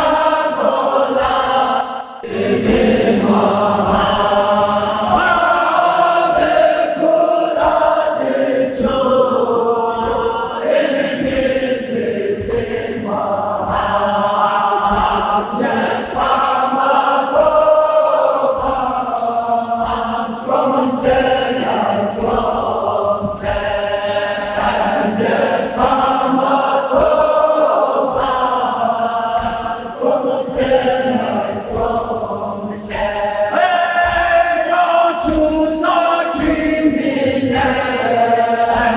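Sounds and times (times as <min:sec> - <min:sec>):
man chanting through microphone: 0:00.0 - 0:38.9
men singing in chorus: 0:00.0 - 0:38.9.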